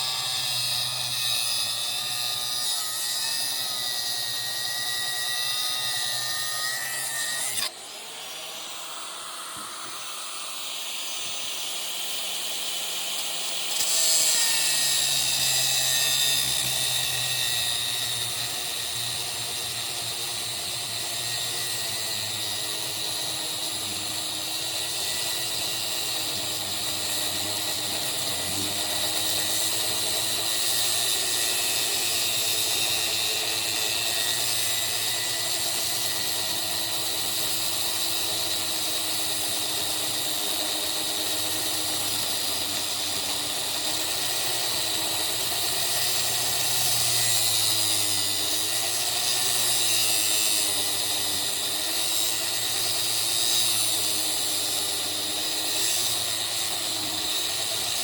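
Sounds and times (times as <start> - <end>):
angle grinder cutting metal: 0.0 - 58.0.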